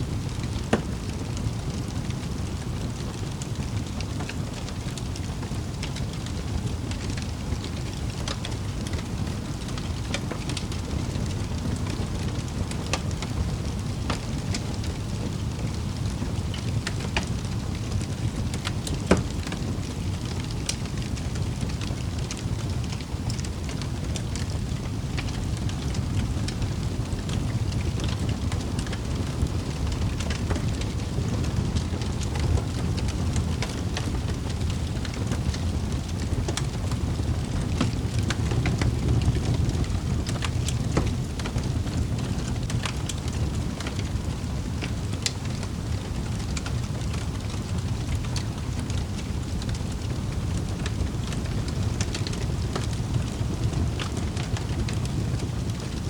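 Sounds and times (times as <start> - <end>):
wood fire crackling in a fireplace: 0.0 - 56.0.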